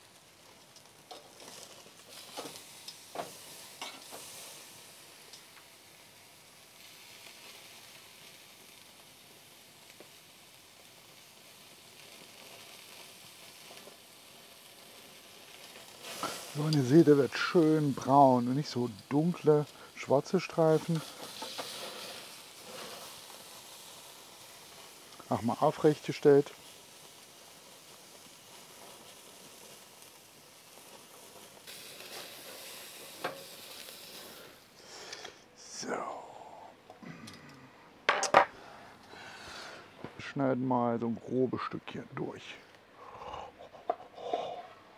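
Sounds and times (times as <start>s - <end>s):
beef sizzling on grill: 0.0s - 36.7s.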